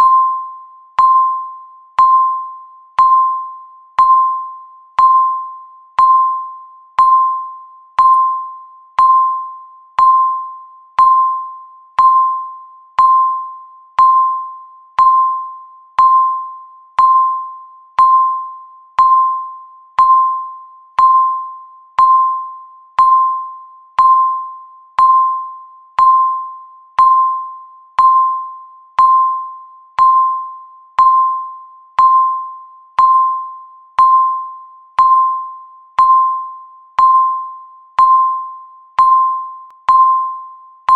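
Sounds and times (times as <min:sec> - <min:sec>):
electronic timer beeps: 0:00.0 - 0:40.9.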